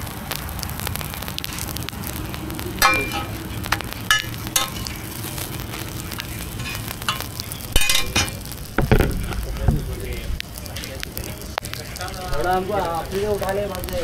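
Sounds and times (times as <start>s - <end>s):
flatbread sizzling on a griddle: 0.0s - 14.0s.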